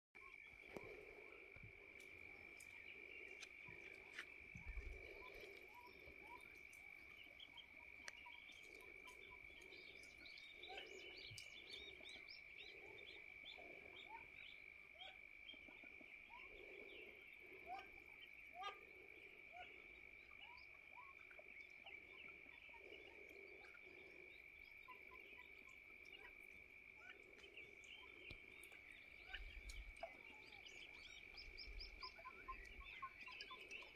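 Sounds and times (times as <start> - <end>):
frogs croaking: 0.2 - 33.9.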